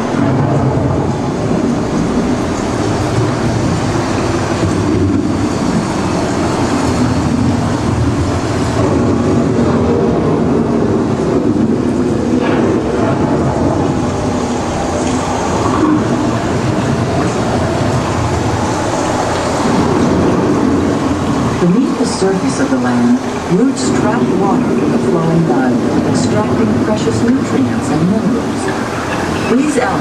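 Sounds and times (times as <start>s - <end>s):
loud rushing noise: 0.0s - 30.0s
low thunder rumble: 0.0s - 30.0s.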